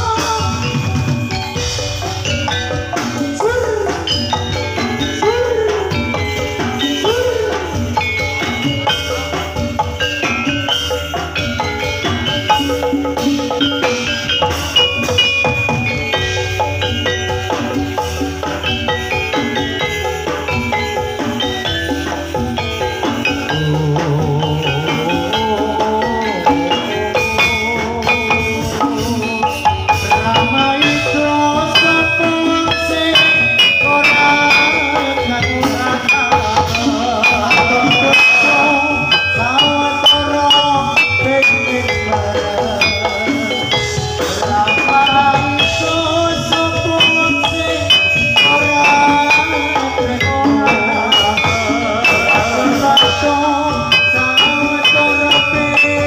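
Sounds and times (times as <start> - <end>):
drumming: 0.0 - 56.0
metallophones ringing: 0.0 - 56.0.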